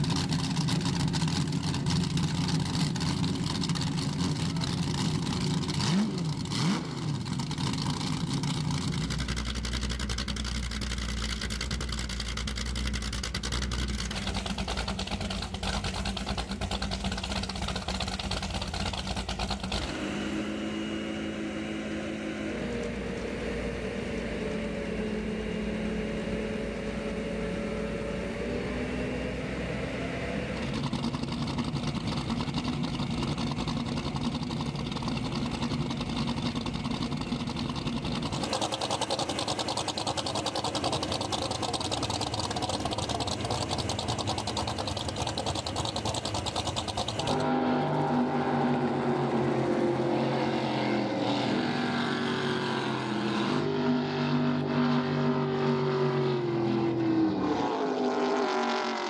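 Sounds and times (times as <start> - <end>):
powerboat engines idling: 0.0 - 28.5, 30.4 - 50.5
race boat engine at speed: 0.0 - 59.0.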